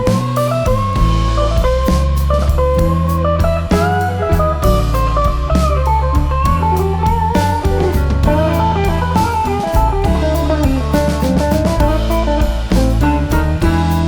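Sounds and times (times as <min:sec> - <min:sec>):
bass guitar: 0:00.0 - 0:14.0
drum kit beat: 0:00.0 - 0:14.0
electric guitar melody: 0:00.0 - 0:14.0.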